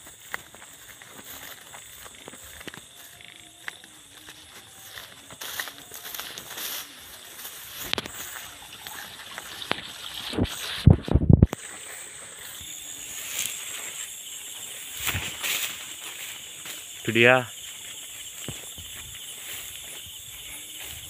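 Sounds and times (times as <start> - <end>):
footsteps through wet field: 0.0 - 21.0
night insects chirring: 0.0 - 21.0.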